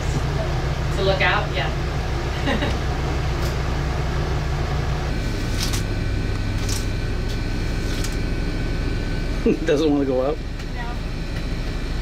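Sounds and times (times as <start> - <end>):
machinery humming: 0.0 - 12.0
thin steady whine: 0.0 - 12.0.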